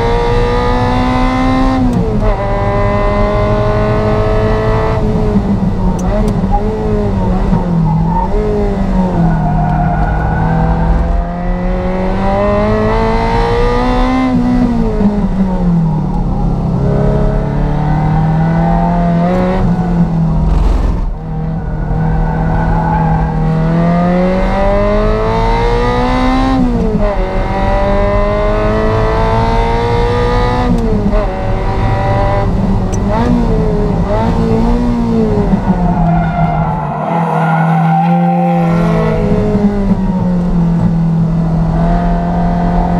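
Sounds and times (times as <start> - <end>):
racing car engine revving: 0.0 - 42.9.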